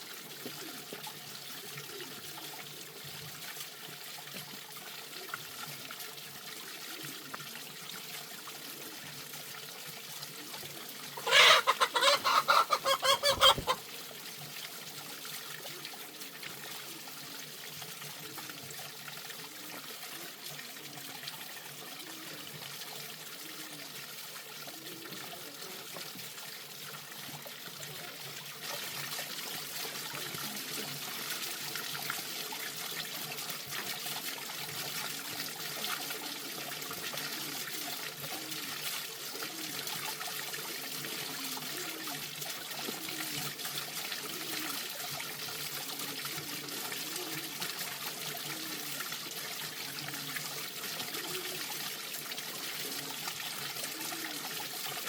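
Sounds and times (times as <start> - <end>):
water running and trickling: 0.0 - 55.0.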